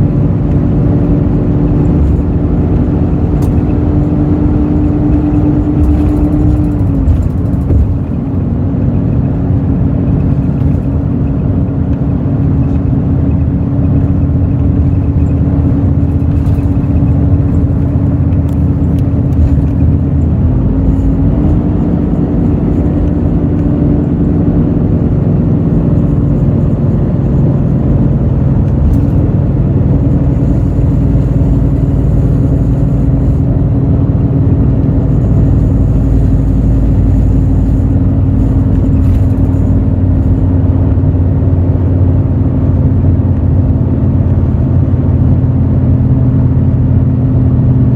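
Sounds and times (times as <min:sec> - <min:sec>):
bus diesel engine drone: 0:00.0 - 0:47.9.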